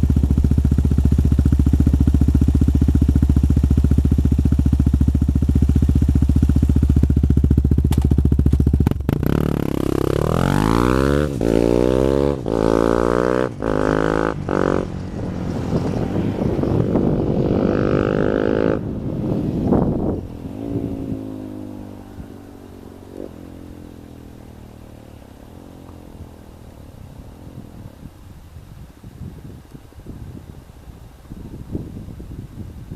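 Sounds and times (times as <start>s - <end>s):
motorcycle engine revving: 0.0s - 28.2s.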